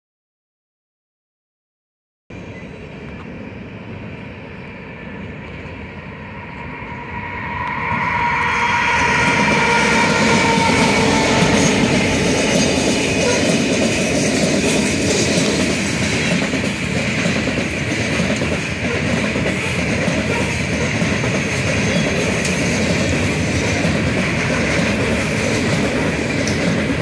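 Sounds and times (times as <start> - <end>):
diesel locomotive passing: 2.3 - 27.0
train wheels clacking on rails: 5.2 - 27.0.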